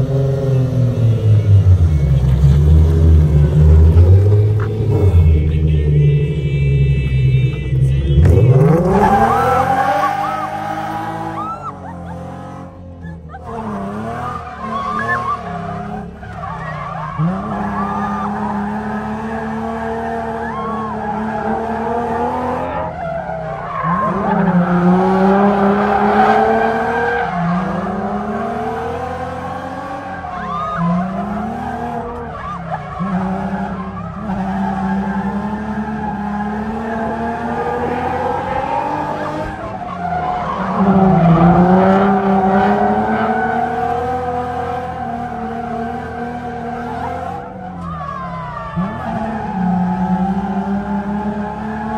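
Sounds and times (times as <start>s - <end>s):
car engine revving: 0.0s - 51.9s
tyres skidding and squealing: 0.0s - 51.9s.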